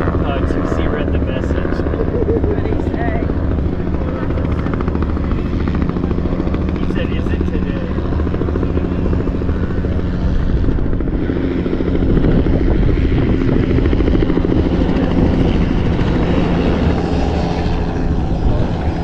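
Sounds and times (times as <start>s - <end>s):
aircraft engine droning: 0.0s - 19.0s.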